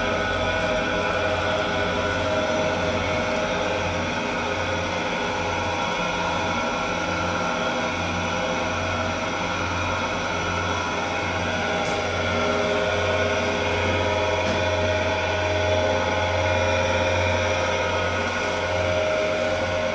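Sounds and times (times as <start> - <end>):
dough mixer humming: 0.0 - 19.9.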